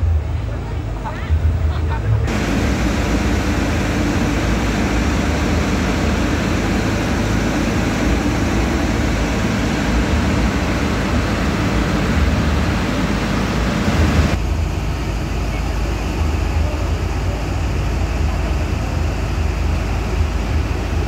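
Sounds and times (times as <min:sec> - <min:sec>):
loud engine drone: 0:00.0 - 0:21.0.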